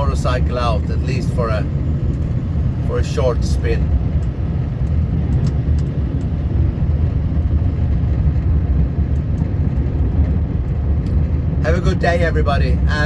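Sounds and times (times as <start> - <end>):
low rumble of moving vehicle: 0.0 - 13.0.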